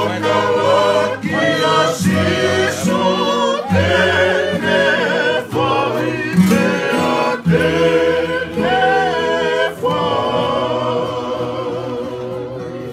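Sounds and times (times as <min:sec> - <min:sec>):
men singing in harmony: 0:00.0 - 0:12.9
strummed acoustic guitars: 0:00.0 - 0:12.9.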